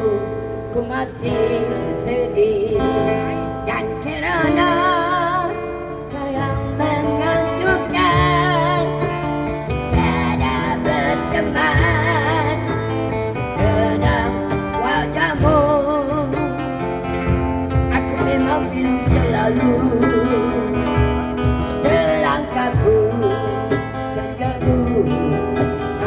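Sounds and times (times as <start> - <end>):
acoustic guitar: 0.0 - 26.0
person singing with vibrato: 0.0 - 26.0.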